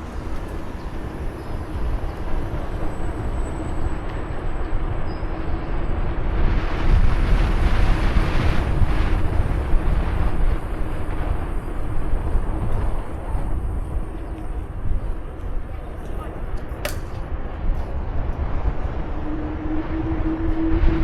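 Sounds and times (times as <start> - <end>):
bicycle rolling rumble: 0.0 - 21.0
wind buffeting microphone: 0.0 - 21.0.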